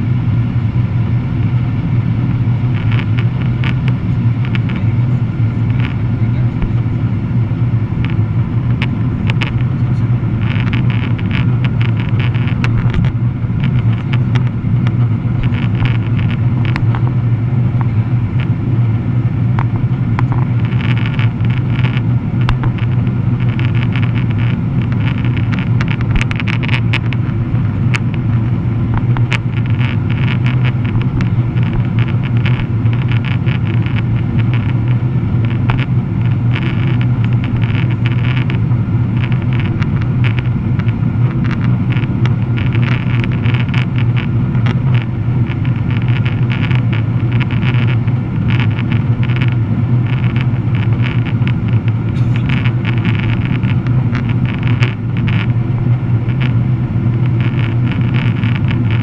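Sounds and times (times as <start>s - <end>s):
jet engine drone: 0.0s - 59.0s.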